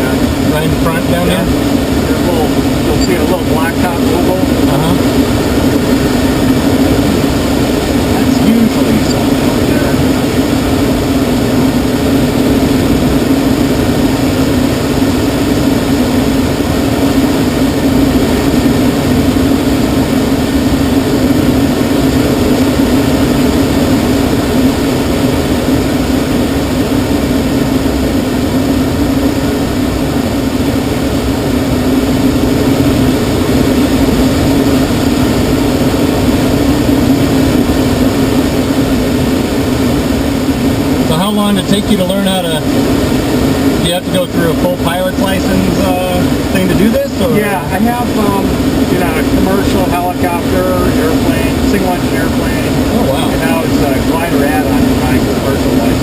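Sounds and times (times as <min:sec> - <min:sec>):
air rushing over glider canopy: 0:00.0 - 0:56.0
constant low hum: 0:00.0 - 0:56.0.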